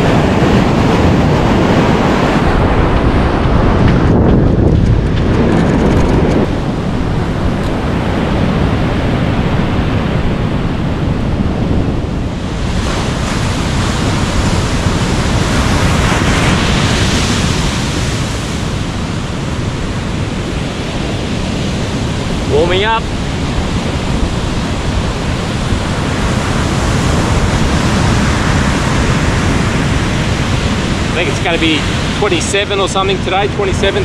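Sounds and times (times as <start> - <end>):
ocean surf breaking on beach: 0.0 - 34.0
wind buffeting microphone: 0.0 - 34.0.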